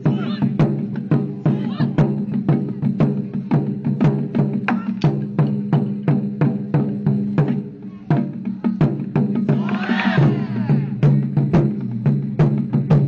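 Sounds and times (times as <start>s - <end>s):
taiko drums beating: 0.0s - 13.0s.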